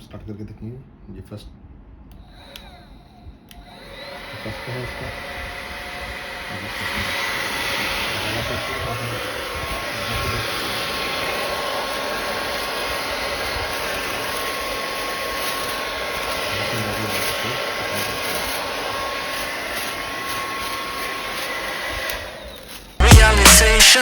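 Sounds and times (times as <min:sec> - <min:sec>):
fan motor whine: 0:02.1 - 0:23.6
hair dryer blowing air: 0:02.1 - 0:24.0.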